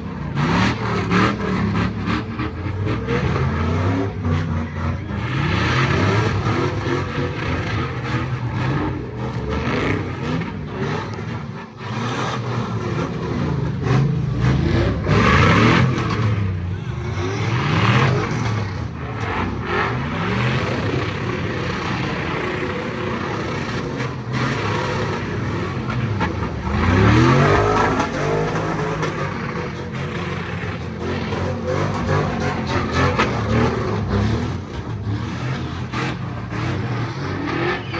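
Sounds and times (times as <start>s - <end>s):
car engines revving hard: 0.0s - 37.9s.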